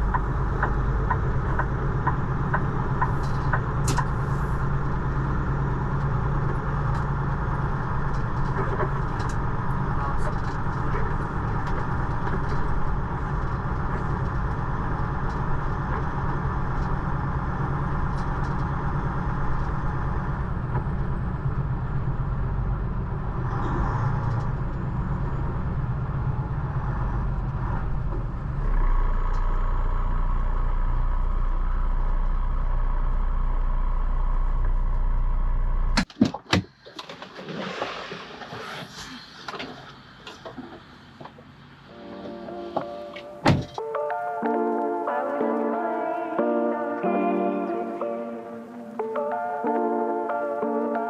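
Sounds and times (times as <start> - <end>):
diesel truck engine: 0.0 - 36.1, 37.9 - 51.0
road noise: 0.0 - 51.0.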